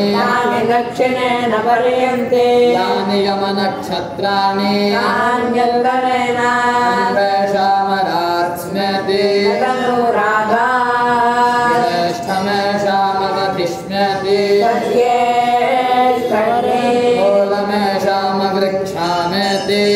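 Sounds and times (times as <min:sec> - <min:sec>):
man chanting into a microphone: 0:00.0 - 0:01.0, 0:02.1 - 0:19.9.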